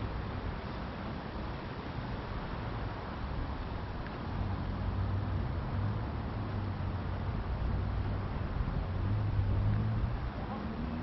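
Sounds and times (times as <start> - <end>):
low engine hum: 0.0 - 11.0
outdoor noise: 0.0 - 11.0.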